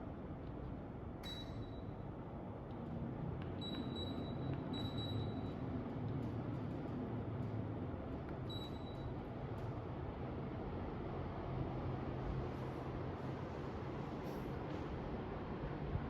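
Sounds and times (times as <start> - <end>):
air conditioner fan air rush: 0.0 - 16.0.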